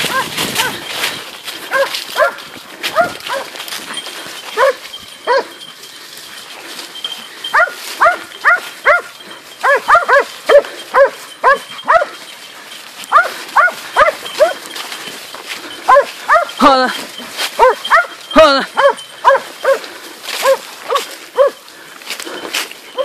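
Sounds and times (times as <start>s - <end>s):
hunting dogs barking: 0.0s - 0.9s, 1.6s - 21.7s, 22.3s - 23.0s.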